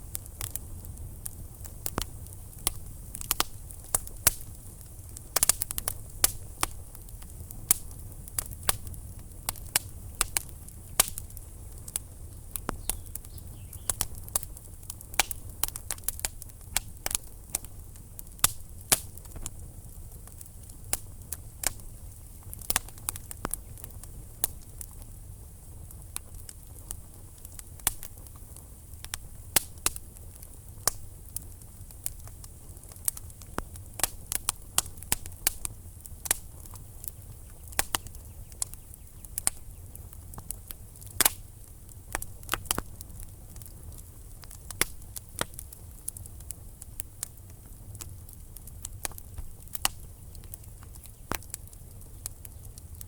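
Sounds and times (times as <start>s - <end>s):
logs crackling and popping: 0.0s - 53.0s
low steady fire rumble: 0.0s - 53.0s.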